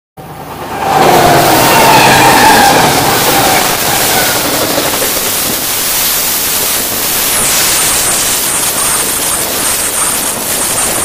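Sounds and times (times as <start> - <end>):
freight train passing: 0.2 - 11.0.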